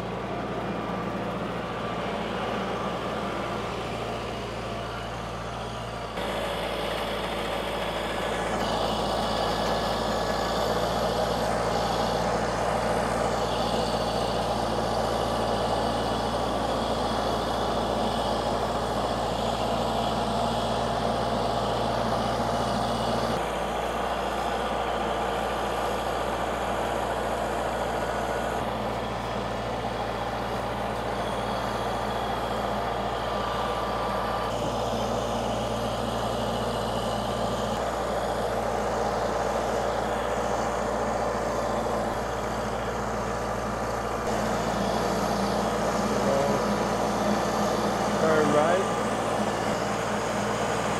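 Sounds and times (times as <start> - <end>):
heavy machinery engine running: 0.0 - 50.9.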